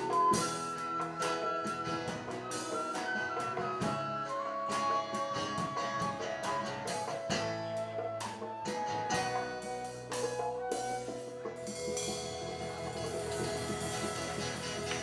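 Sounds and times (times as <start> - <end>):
drum kit strikes: 0.0 - 15.0
held instrument notes: 0.0 - 15.0.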